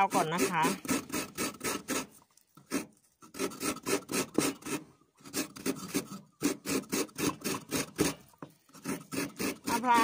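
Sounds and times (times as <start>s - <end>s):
coconut rasping on metal grater: 0.0s - 10.0s.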